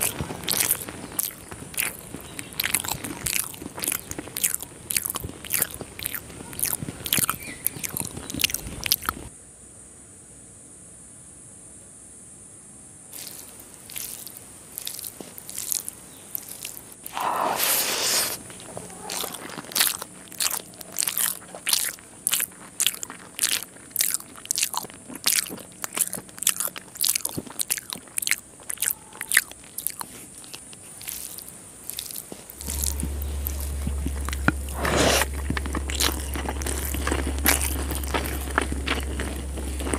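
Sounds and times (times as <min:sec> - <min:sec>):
chewing with mouth clicks: 0:00.0 - 0:09.3, 0:13.2 - 0:39.9
rice and gravy squishing by hand: 0:00.0 - 0:09.3, 0:13.2 - 0:39.9.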